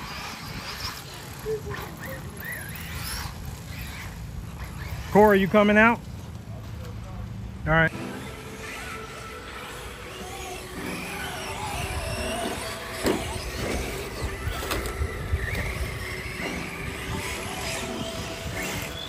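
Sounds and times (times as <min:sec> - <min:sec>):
rc car motor whine: 0:00.0 - 0:05.9, 0:07.9 - 0:19.0.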